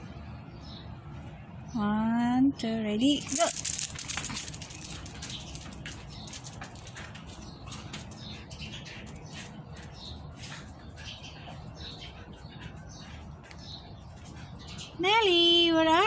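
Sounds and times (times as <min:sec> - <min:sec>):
steady low rumble: 0:00.0 - 0:14.9
birds chirping: 0:00.0 - 0:16.0.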